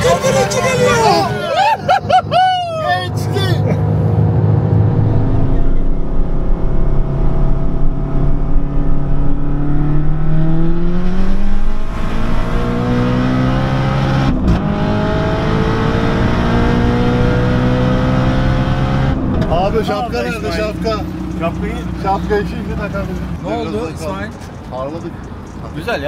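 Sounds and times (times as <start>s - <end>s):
car engine at full throttle: 0.0s - 24.5s.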